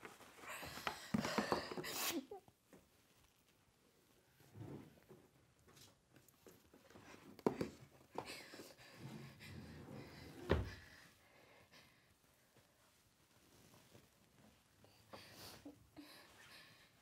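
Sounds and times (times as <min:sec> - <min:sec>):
objects rustling and shifting: 0:00.0 - 0:11.2, 0:12.2 - 0:17.0.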